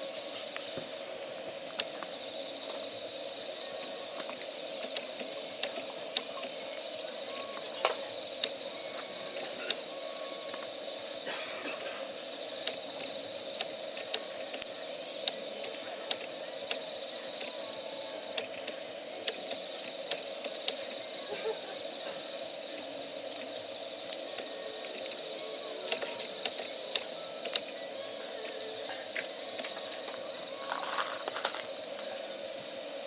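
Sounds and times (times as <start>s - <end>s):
wood fire crackling: 0.1s - 11.2s, 12.0s - 21.2s, 21.8s - 33.0s.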